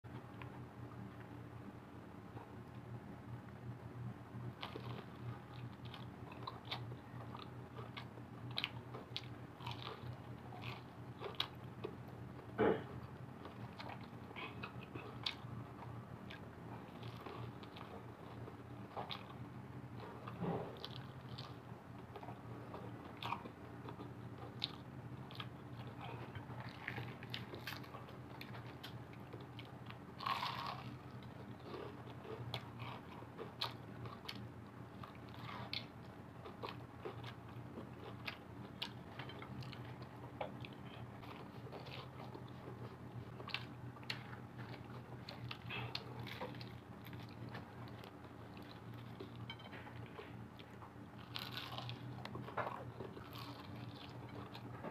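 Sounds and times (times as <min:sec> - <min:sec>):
low hum: 0:00.0 - 0:54.9
crunching fried chicken: 0:04.3 - 0:54.9.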